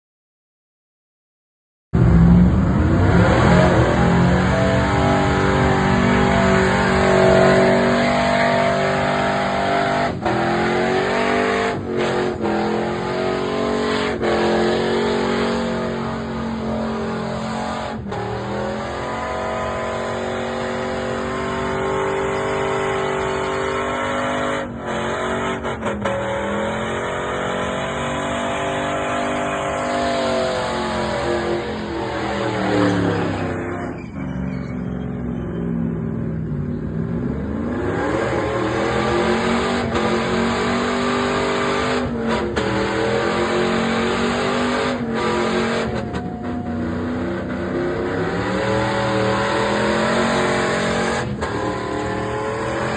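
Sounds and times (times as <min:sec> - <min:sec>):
truck engine revving high: 0:02.0 - 0:52.9.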